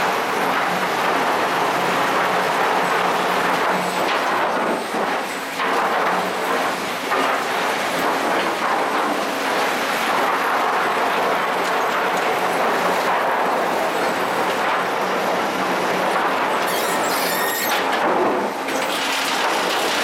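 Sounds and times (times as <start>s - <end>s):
machine conveyor clatter: 0.0s - 20.0s.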